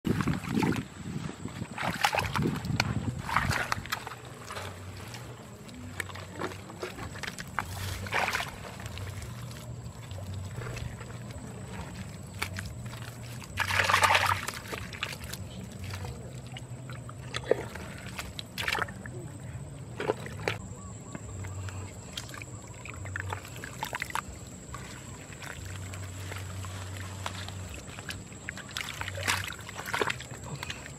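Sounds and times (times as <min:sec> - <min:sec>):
hands squelching in wet mud: 0:00.1 - 0:30.9.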